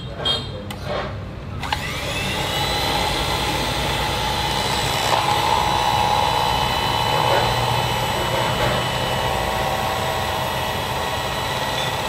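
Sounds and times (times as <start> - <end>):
electric hand mixer whine: 1.6 - 12.0.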